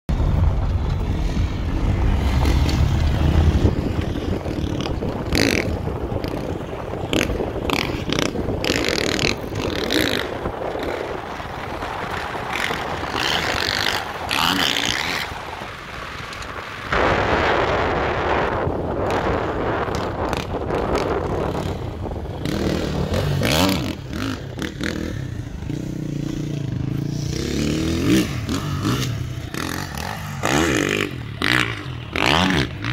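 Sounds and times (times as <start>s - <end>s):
motorcycle engine revving: 0.1s - 32.9s
wind buffeting microphone: 0.1s - 32.9s.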